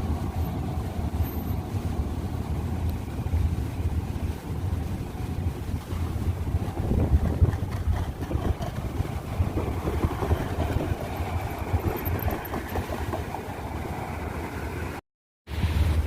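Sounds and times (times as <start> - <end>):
light rail train rumbling by: 0.0 - 16.0.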